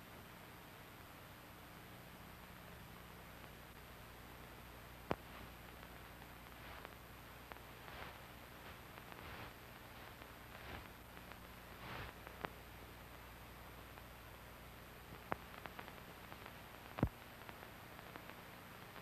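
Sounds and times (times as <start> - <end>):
film hiss and hum: 0.0 - 19.0.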